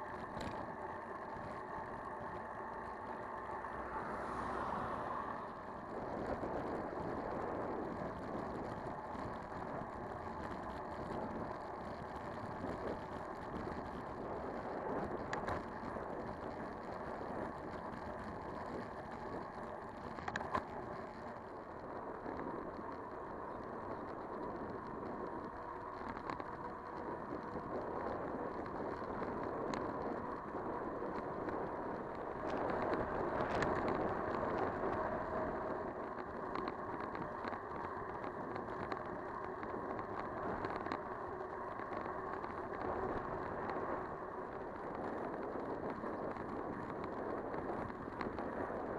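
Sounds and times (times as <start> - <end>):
bicycle rolling noise: 0.0 - 48.9
wind: 0.0 - 48.9
light clicks and rattles: 5.5 - 48.9.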